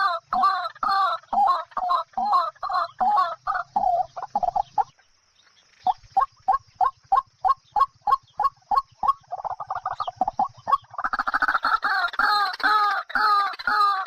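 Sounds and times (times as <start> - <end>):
fowl clucking: 0.0 - 5.0, 5.8 - 14.0.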